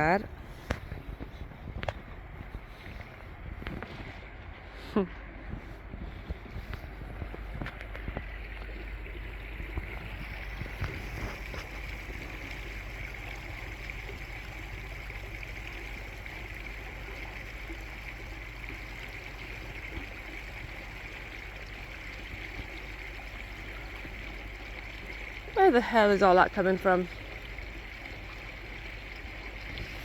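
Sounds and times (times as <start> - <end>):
floodwater rushing into drains: 0.0 - 30.0.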